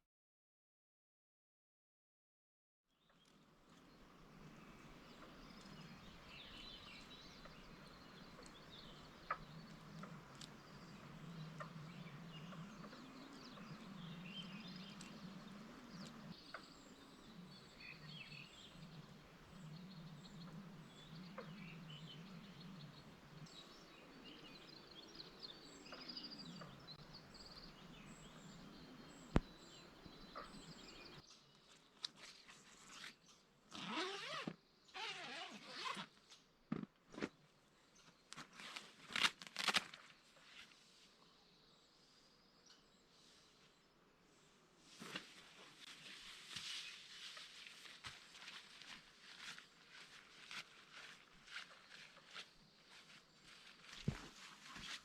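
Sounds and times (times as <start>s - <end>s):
wild birds chirping and trilling: 3.0s - 33.9s, 40.3s - 55.0s.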